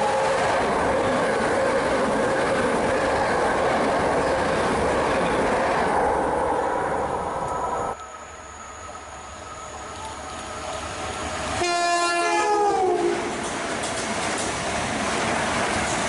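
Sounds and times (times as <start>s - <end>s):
passing train rushing noise: 0.0s - 16.0s.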